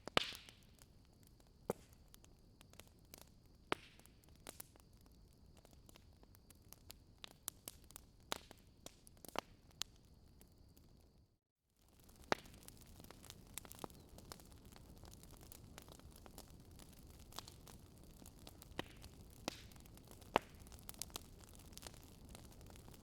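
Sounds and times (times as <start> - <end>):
wood fire crackling: 0.0 - 11.2, 11.8 - 23.0.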